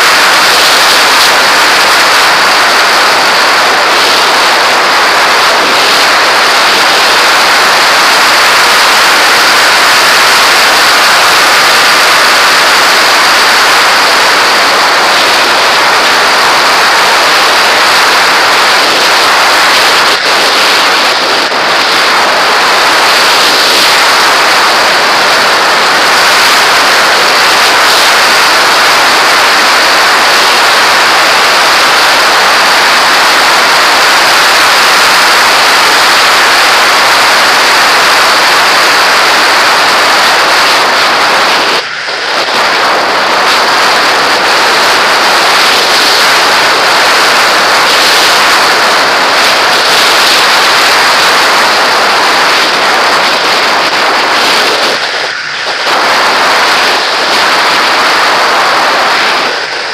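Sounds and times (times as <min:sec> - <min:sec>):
airflow rushing over model aircraft: 0:00.0 - 0:59.9.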